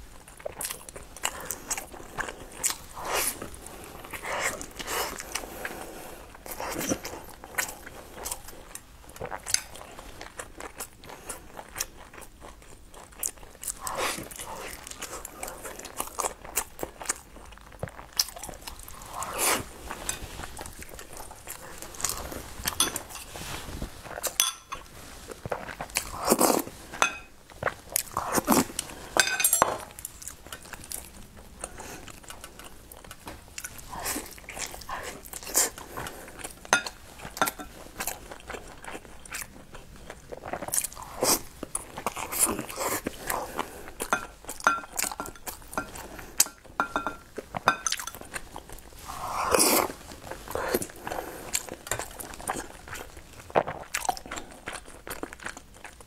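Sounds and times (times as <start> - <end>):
chewing sticky rice dumplings: 0.0 - 56.0.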